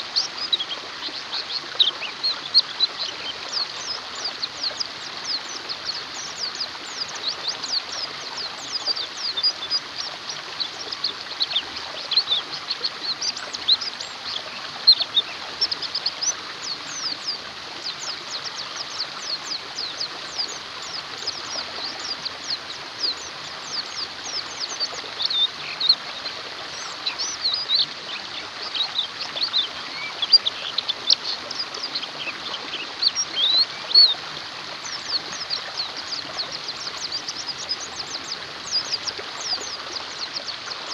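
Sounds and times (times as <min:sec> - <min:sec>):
birds twittering and chirping: 0:00.0 - 0:40.9
flowing water rushing: 0:00.0 - 0:40.9.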